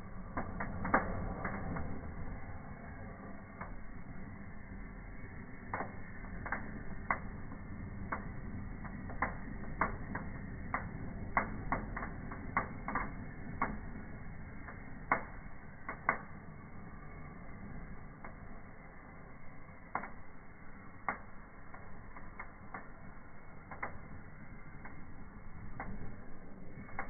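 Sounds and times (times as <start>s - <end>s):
faint low rush: 0.0s - 27.0s
fire crackling and popping: 0.0s - 27.0s.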